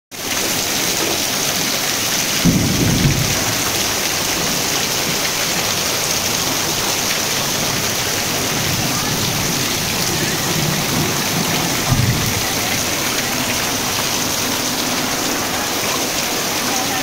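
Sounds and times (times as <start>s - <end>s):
heavy rain on concrete and plastic: 0.1s - 17.0s.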